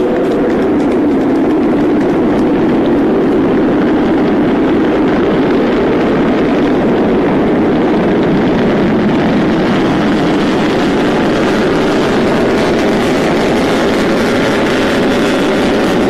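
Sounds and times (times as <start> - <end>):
rocket engine roaring: 0.0 - 16.0.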